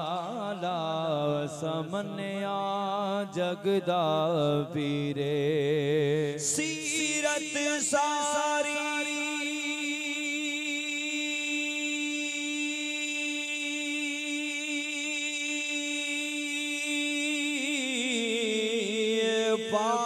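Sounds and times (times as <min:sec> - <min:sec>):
man singing through microphone: 0:00.0 - 0:20.0.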